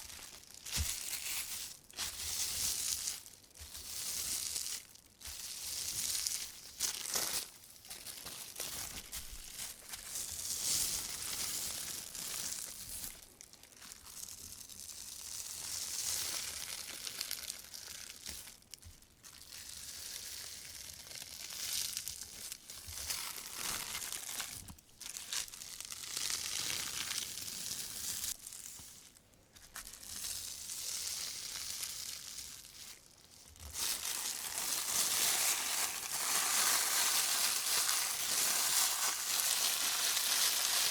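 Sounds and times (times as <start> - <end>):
plastic bag crinkling: 0.0 - 14.6, 21.0 - 29.1, 29.8 - 40.9.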